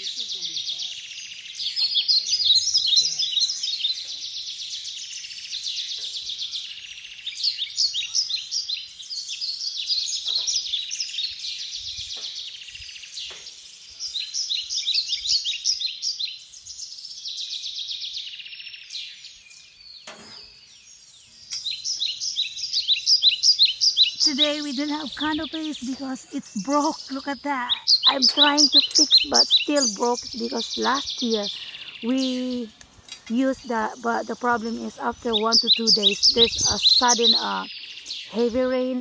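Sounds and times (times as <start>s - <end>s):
songbirds singing and chirping: 0.0s - 39.0s.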